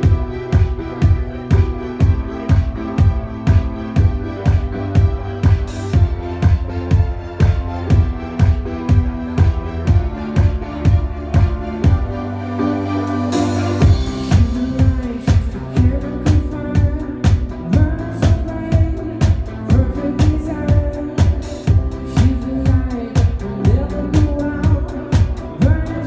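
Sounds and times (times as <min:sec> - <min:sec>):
electronic kick drum beat: 0:00.0 - 0:12.2, 0:13.8 - 0:26.0
synth-pop band playing live: 0:00.0 - 0:26.0.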